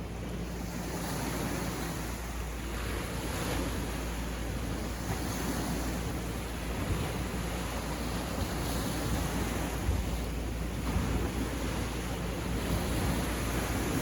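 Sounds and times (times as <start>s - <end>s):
sea waves breaking on beach: 0.0s - 14.0s
wind noise on microphone: 0.0s - 14.0s.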